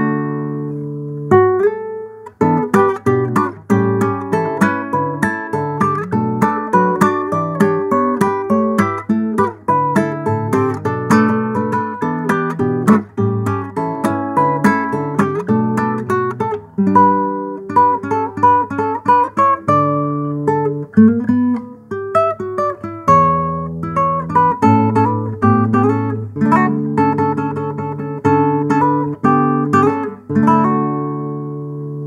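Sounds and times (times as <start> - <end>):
fingerpicked classical guitar: 0.0 - 32.0.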